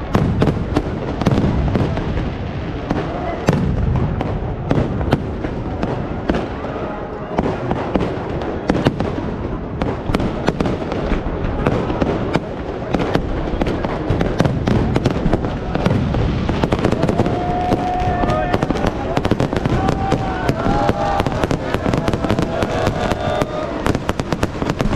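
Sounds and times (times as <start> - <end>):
fireworks bangs and crackling: 0.0 - 24.9.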